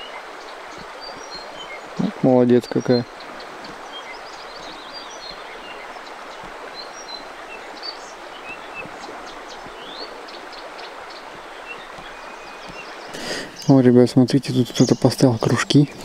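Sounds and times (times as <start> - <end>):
birds chirping and whistling: 0.0 - 13.9, 14.5 - 16.0
outdoor background hiss: 0.0 - 16.0.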